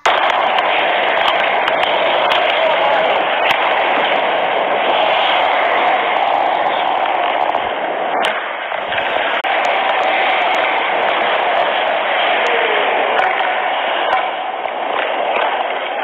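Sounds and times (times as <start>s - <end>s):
skate blades scraping ice: 0.0s - 16.0s.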